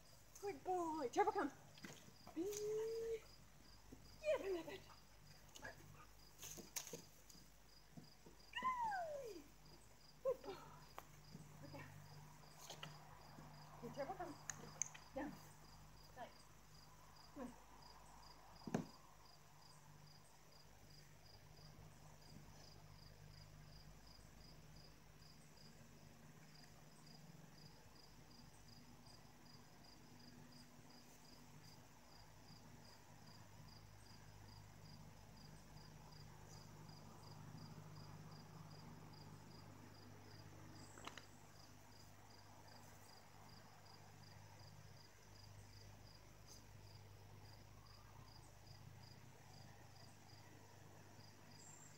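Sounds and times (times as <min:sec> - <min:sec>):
faint insect chirping: 0:00.0 - 0:51.9.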